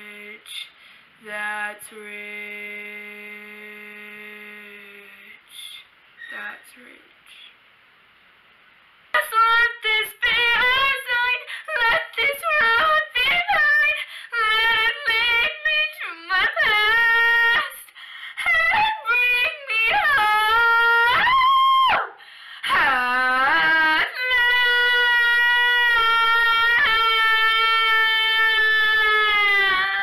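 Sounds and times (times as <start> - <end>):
girl singing unaccompanied: 0.0 - 7.5, 9.2 - 30.0.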